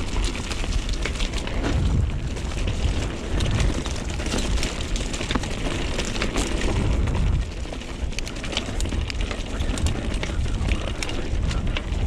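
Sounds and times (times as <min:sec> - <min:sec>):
mountain bike rattling and clicking: 0:00.0 - 0:12.0
tyres on dirt trail: 0:00.0 - 0:12.0
wind buffeting microphone: 0:00.0 - 0:12.0.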